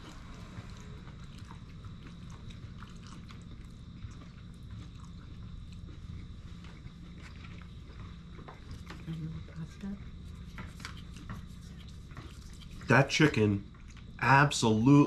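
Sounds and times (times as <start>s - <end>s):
low steady hum: 0.0s - 15.0s
people chewing food: 0.0s - 15.0s.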